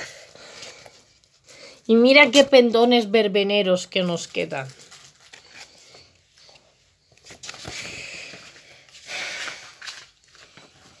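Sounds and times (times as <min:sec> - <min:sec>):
magazine pages rustling: 0:00.0 - 0:02.8, 0:03.6 - 0:11.0.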